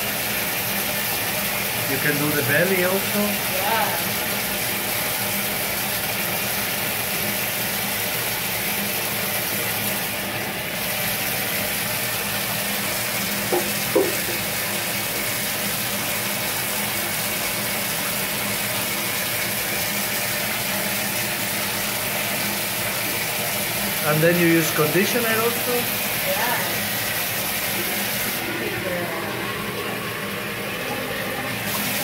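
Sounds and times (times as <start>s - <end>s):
water running into bathtub: 0.0s - 32.0s.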